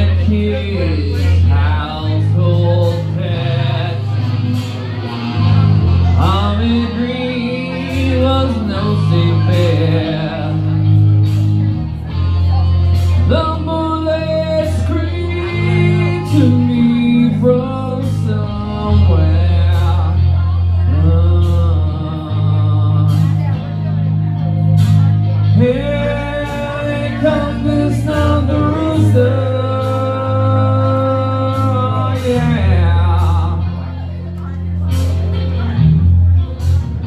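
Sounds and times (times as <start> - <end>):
man singing into microphone: 0.0 - 11.7, 13.0 - 35.9
recorded backing track: 0.0 - 37.0.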